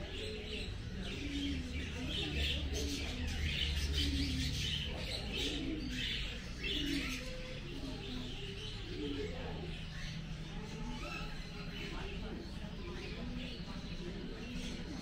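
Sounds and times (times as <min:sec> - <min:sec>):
caged birds chirping: 0:00.0 - 0:15.0
low cooing calls: 0:00.0 - 0:15.0.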